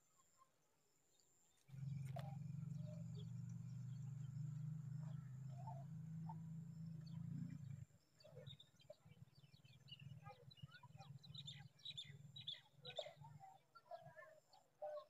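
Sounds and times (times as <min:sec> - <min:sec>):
birds chirping: 0:01.7 - 0:15.0.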